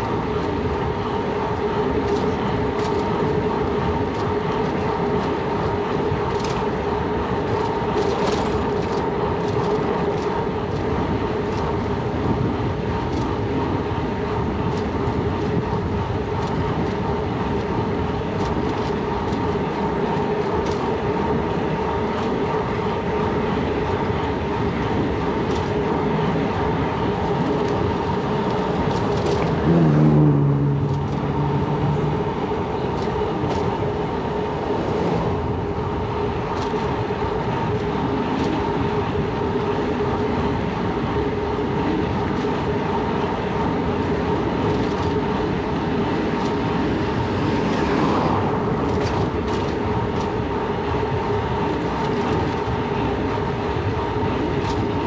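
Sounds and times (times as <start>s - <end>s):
bicycle road and wind noise: 0.0s - 55.0s.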